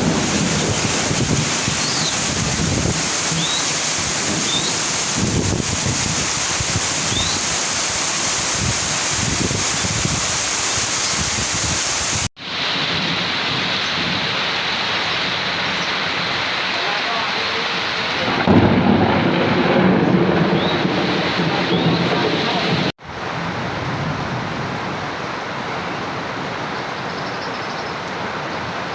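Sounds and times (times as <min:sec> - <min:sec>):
thunder rumbling: 0:00.0 - 0:26.0
heavy rain: 0:00.0 - 0:28.9.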